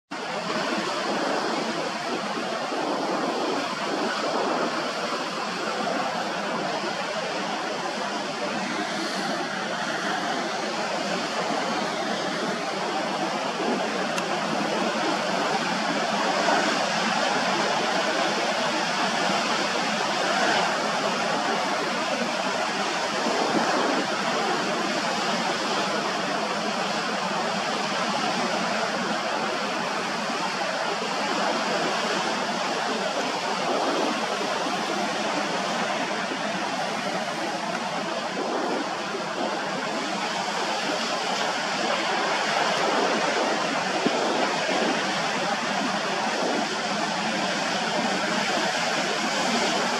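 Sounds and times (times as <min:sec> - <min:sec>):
sea surf hissing: 0:00.2 - 0:49.9.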